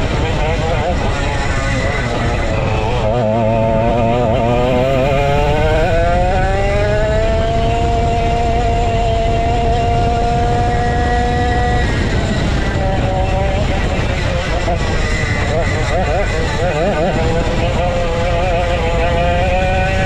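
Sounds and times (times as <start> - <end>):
constant low rumble: 0.0 - 20.0
go-kart engine running: 0.0 - 20.0.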